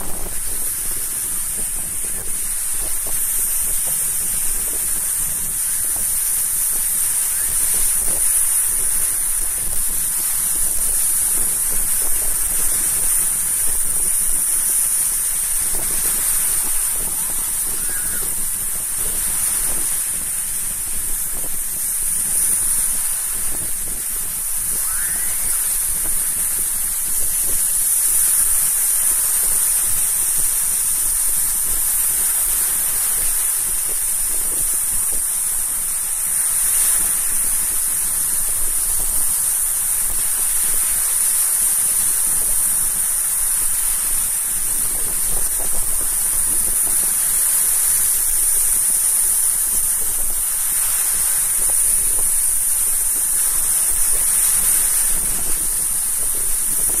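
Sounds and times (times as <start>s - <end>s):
high hiss: 0.0s - 57.0s
waves breaking on shore: 0.0s - 57.0s.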